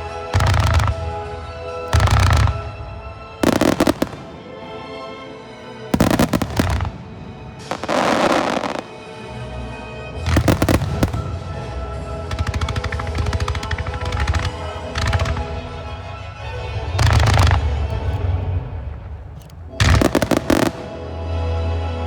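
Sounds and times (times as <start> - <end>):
fireworks bangs and crackling: 0.0 - 9.5, 10.1 - 21.4
music: 0.0 - 22.0.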